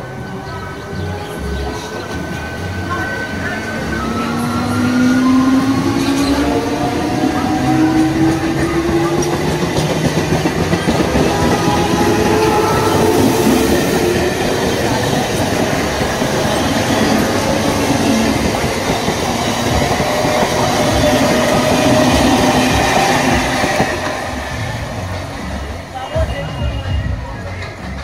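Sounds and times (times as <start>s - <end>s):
steady train whine: 0.0s - 28.0s
train wheels clattering on track: 4.2s - 28.0s.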